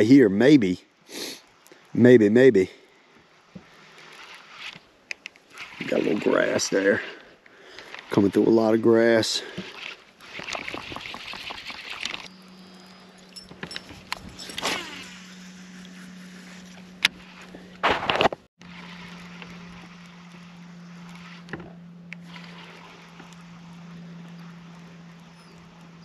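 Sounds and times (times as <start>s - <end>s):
electric boat motor humming: 3.4s - 8.8s, 9.5s - 17.8s, 18.6s - 26.0s.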